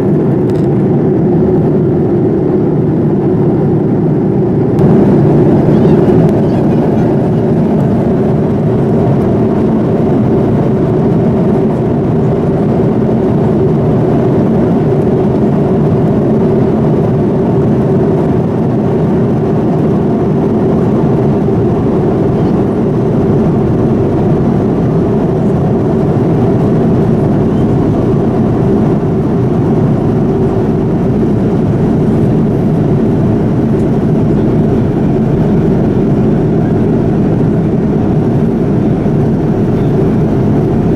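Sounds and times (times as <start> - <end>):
airliner cabin noise: 0.0 - 40.9.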